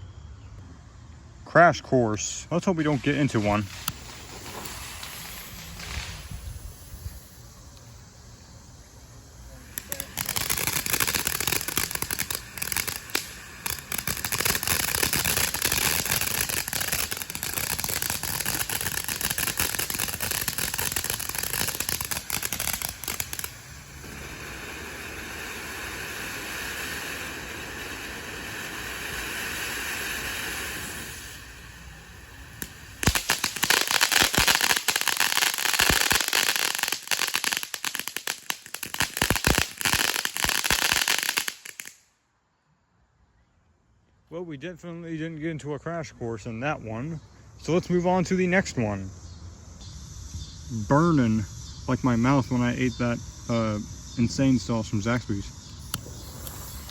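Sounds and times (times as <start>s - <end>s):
firework crackling and hissing: 1.8s - 42.1s, 50.6s - 56.9s.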